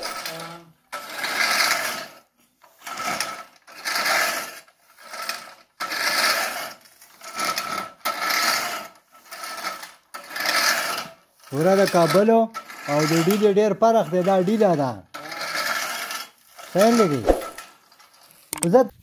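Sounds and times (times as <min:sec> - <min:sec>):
push reel mower whirring: 0:00.0 - 0:18.5.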